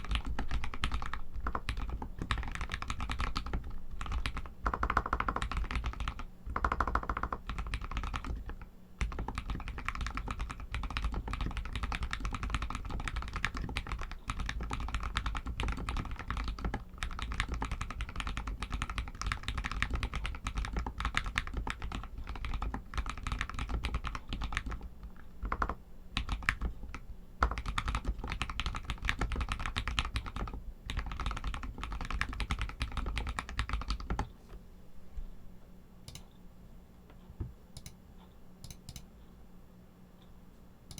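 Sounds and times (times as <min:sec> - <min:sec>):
mechanical keyboard typing: 0:00.0 - 0:34.3.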